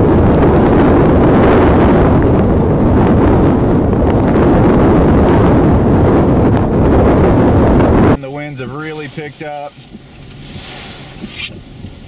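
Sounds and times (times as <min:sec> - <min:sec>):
strong wind buffeting microphone: 0:00.0 - 0:12.0
wind-driven rain: 0:00.0 - 0:12.0.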